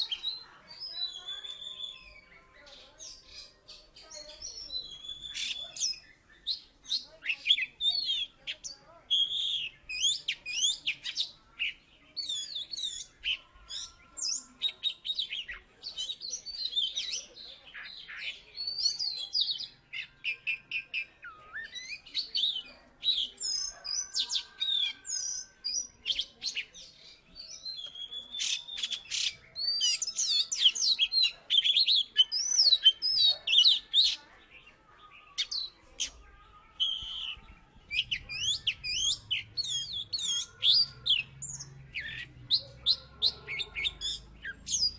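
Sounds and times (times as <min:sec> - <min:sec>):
bird song whistles and trills: 0:00.0 - 0:44.9.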